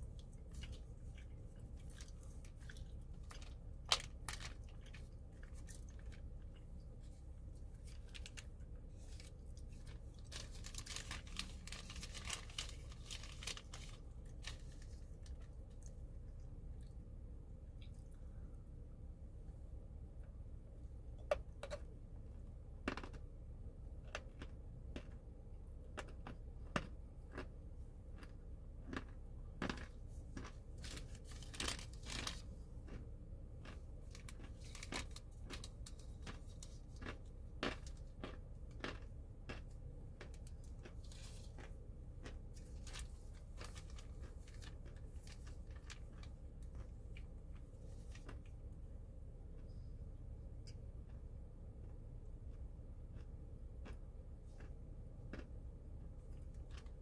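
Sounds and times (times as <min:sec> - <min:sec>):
crunchy food chewing: 0:00.0 - 0:17.0, 0:22.8 - 0:23.3, 0:23.9 - 0:49.9, 0:50.6 - 0:57.0.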